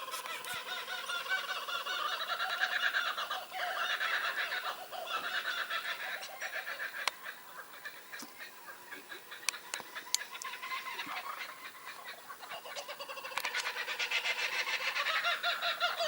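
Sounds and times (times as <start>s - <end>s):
birds chattering chorus: 0.0s - 16.0s.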